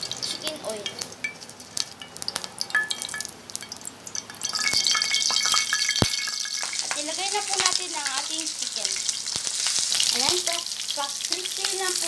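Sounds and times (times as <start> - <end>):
oil crackling and sizzling in pan: 0.0 - 12.0.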